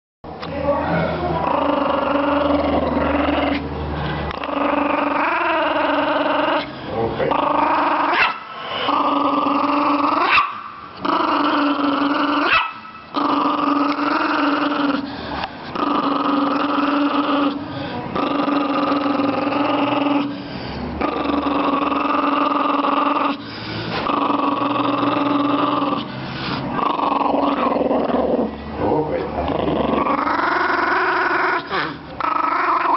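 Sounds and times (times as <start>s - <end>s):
small dog growling: 1.3s - 32.9s.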